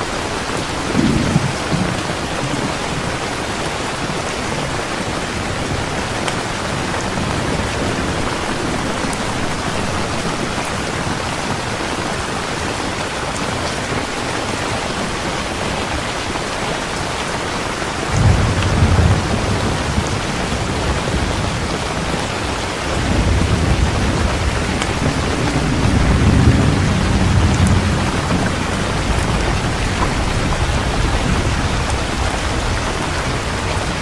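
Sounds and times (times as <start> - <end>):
thunder rumbling: 0.0 - 12.2, 13.7 - 34.0
heavy rain: 0.0 - 34.0.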